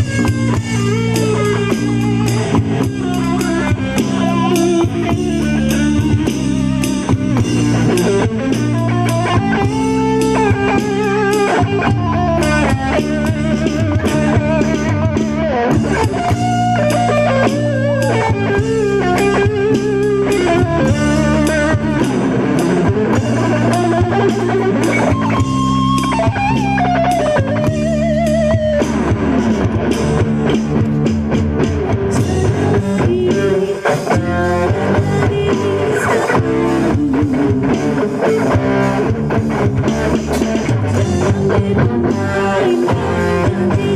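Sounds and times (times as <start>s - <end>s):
bass: 0.0s - 43.9s
drum kit: 0.0s - 43.9s
electric lead guitar melody: 0.0s - 43.9s.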